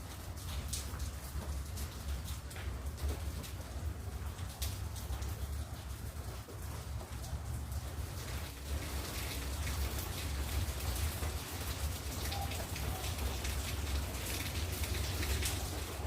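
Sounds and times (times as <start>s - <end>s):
rain drops splashing: 0.0s - 16.0s.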